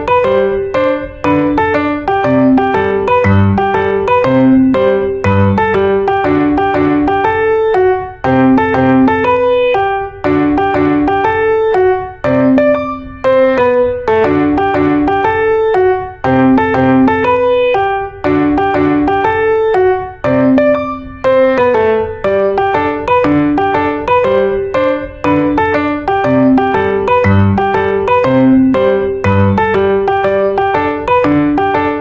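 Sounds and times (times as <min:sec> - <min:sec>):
looping piano music: 0:00.0 - 0:32.0.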